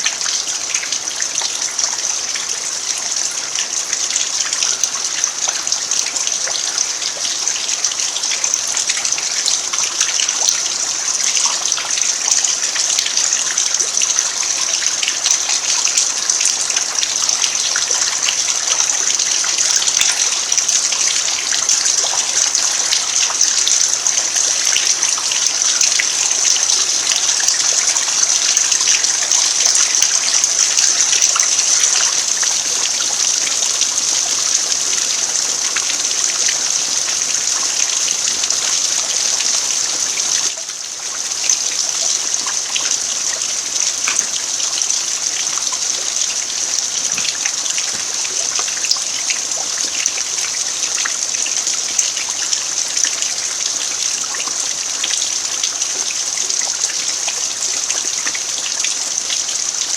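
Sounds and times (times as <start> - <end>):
rain pattering on earth: 0.0 - 59.9.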